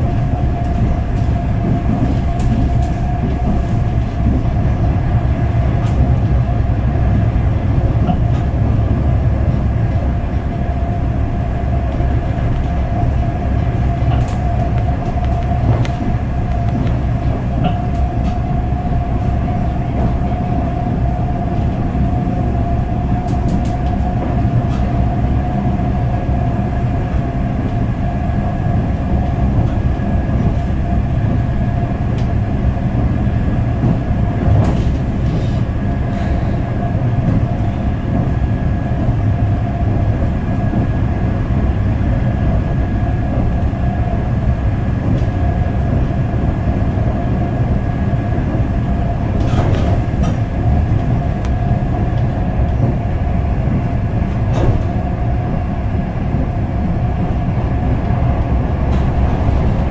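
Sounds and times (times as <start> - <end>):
constant whine: 0.0 - 59.9
train wheels rumbling on rails: 0.0 - 59.9.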